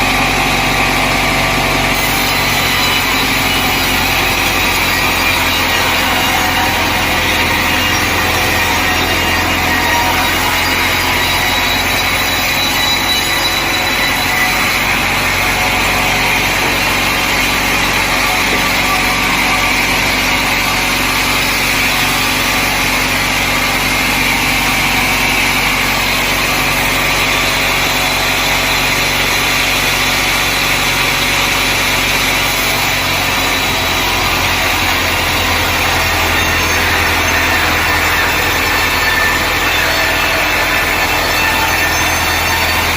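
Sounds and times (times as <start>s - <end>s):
sawmill machinery humming: 0.0s - 42.9s.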